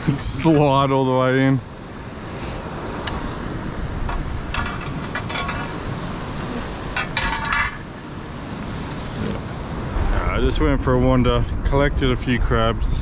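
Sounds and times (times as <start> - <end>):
surf washing: 0.0 - 13.0
wind on microphone: 1.9 - 13.0.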